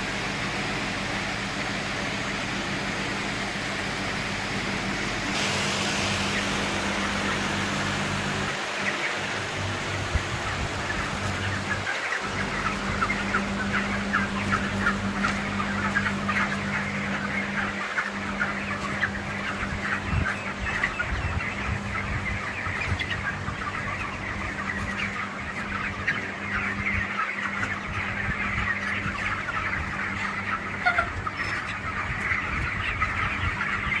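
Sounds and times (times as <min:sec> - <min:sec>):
steady low hum: 0:00.0 - 0:33.9
chickens calling: 0:00.0 - 0:34.0.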